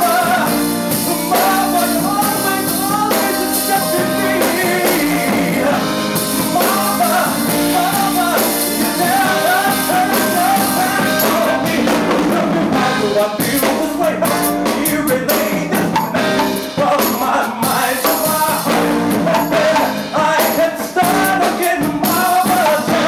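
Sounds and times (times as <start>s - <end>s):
band playing: 0.0s - 23.0s
drums beating: 0.0s - 23.0s
man singing into microphone: 0.0s - 23.0s.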